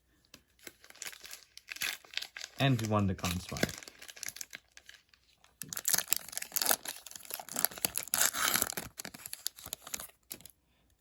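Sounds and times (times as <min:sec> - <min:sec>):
wrapper tearing and crinkling: 0:00.6 - 0:10.5.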